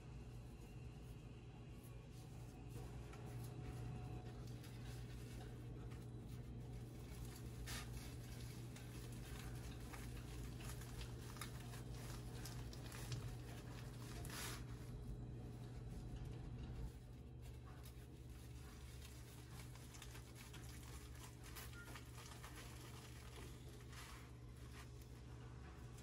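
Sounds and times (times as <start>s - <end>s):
steady low hum: 0.0s - 26.0s
seaweed sheet rustling and crinkling: 2.4s - 26.0s.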